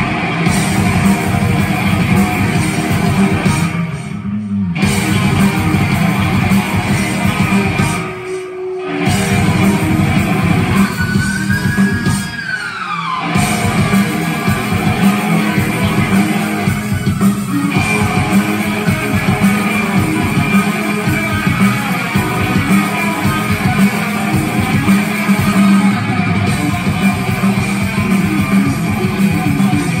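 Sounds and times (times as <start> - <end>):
bass guitar: 0.0 - 12.4, 13.2 - 30.0
drums: 0.0 - 30.0
electric guitar lead: 0.0 - 30.0.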